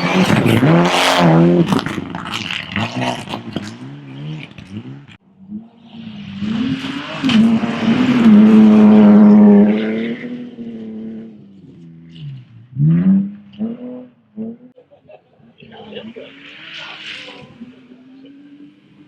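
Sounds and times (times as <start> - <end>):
rally car passing at speed: 0.0 - 14.8, 15.4 - 19.0
rally car engine revving: 0.0 - 19.0.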